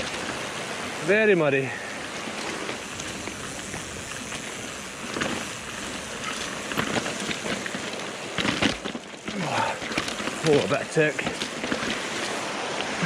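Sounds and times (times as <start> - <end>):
bike knocking and rattling: 0.0 - 13.0
bike tyres hissing through mud: 0.0 - 13.0.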